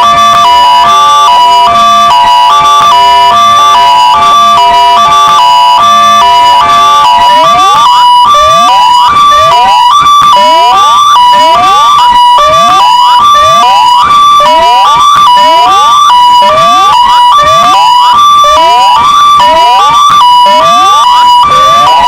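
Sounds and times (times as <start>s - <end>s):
hi-lo electronic siren: 0.0s - 22.0s
rising whoop siren: 0.0s - 22.0s.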